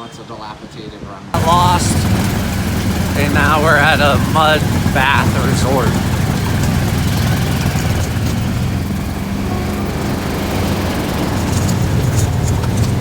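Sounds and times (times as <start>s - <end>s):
constant rushing noise: 1.4s - 13.0s
vehicle engine humming: 1.4s - 13.0s.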